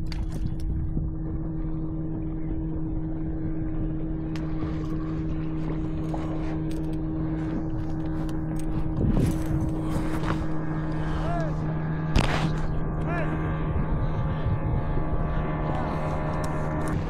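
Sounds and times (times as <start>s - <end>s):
boat motor humming: 0.0s - 17.0s
low rumble: 0.0s - 17.0s.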